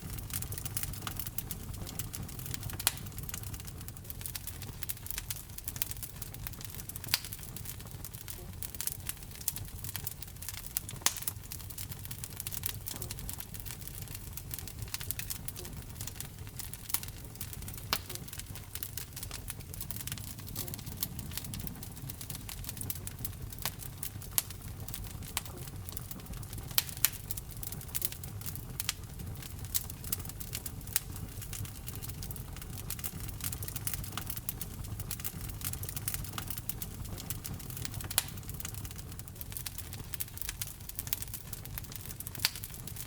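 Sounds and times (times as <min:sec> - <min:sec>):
low rumble of flames: 0:00.0 - 0:43.0
wood fire crackling and popping: 0:00.0 - 0:43.0.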